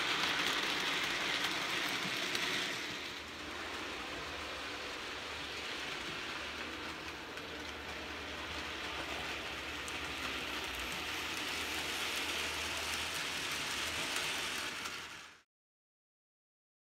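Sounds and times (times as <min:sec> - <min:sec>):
model train whirring and rattling: 0:00.0 - 0:15.4.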